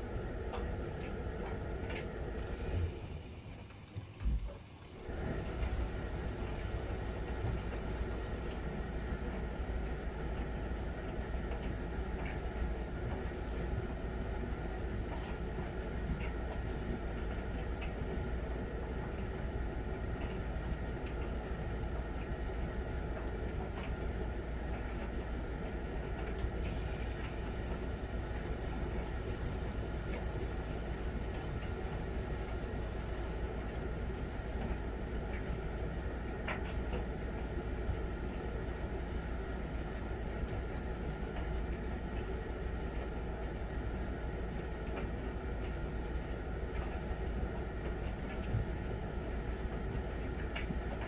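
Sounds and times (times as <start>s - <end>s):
washing machine rumble and hiss: 0.0s - 51.0s.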